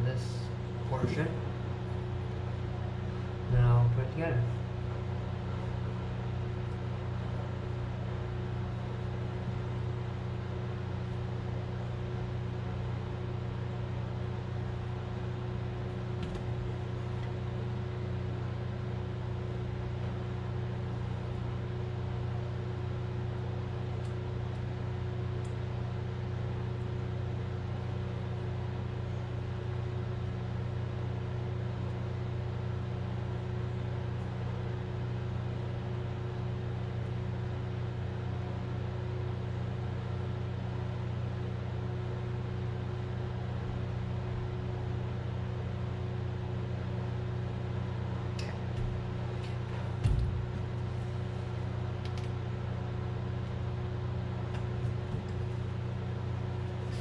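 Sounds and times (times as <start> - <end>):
low machine hum: 0.0 - 57.0.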